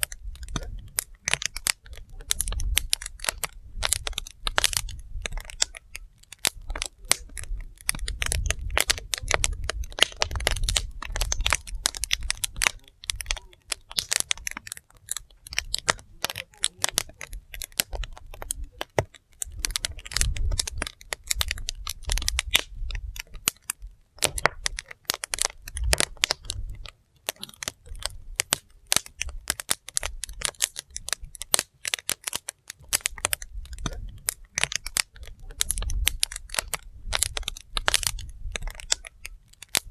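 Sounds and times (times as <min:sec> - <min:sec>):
logs crackling and popping: 0:00.0 - 0:39.9
low fire rumble: 0:00.0 - 0:39.9.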